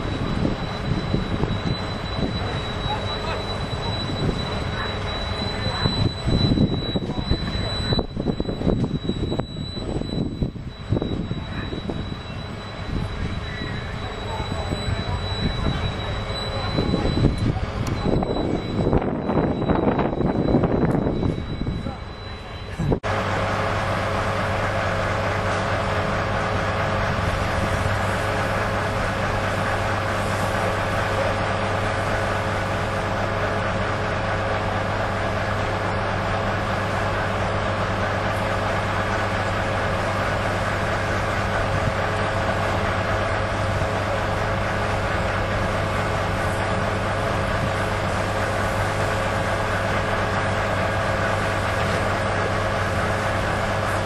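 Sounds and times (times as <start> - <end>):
fire engine running: 0.0 - 54.0.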